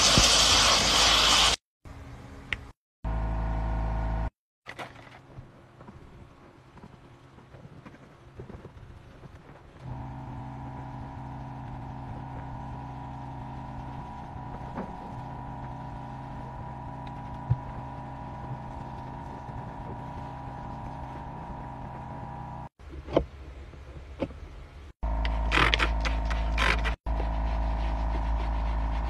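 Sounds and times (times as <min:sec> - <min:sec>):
steady motor hum: 0:01.9 - 0:04.3, 0:05.0 - 0:29.0.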